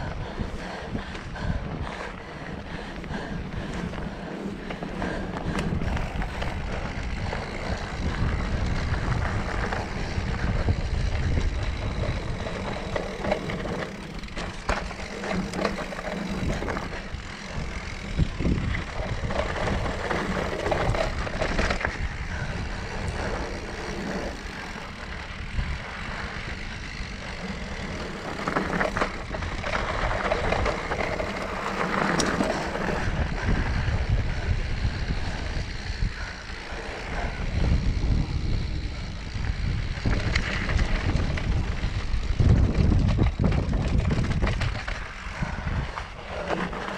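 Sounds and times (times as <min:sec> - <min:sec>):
bike rattling over bumps: 0:00.0 - 0:46.9
wind rumble on microphone: 0:00.0 - 0:46.9
tyre noise on dirt: 0:01.9 - 0:46.9.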